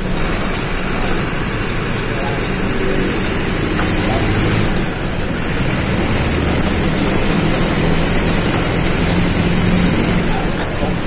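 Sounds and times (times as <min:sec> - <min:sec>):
bus engine: 0:00.0 - 0:11.0
road and wind noise: 0:00.0 - 0:11.0.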